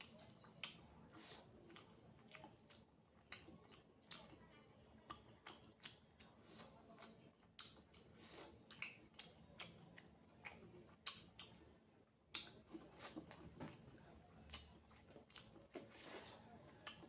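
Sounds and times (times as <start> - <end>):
person chewing: 0.0 - 4.4, 5.0 - 17.0.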